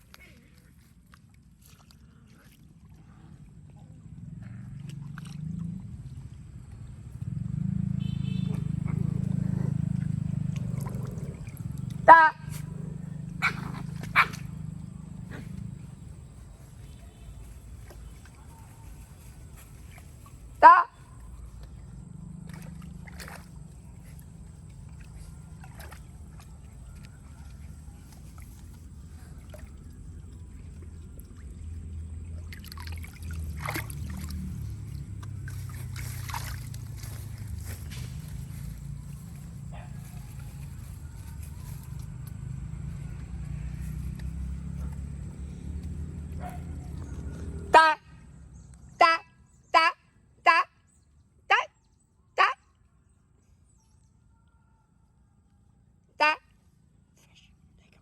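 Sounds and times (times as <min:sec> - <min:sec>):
water sloshing and gurgling: 0:00.0 - 0:47.7.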